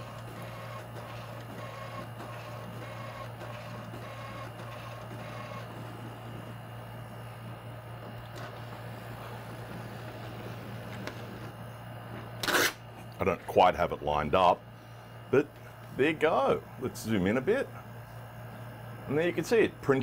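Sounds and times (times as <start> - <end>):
printer carriage whine: 0.0 - 20.0.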